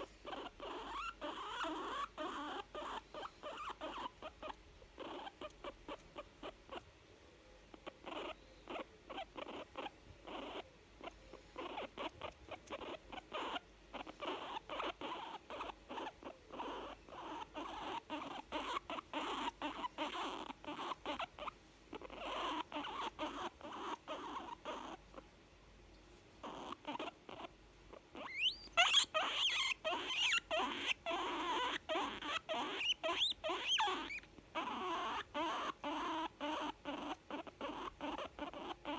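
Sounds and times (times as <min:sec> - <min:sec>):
guinea pig rapid pulses: 0:00.0 - 0:06.9, 0:07.7 - 0:25.2, 0:26.4 - 0:38.9
guinea pig rising squeaks: 0:00.0 - 0:06.9, 0:07.7 - 0:25.3, 0:26.3 - 0:38.9.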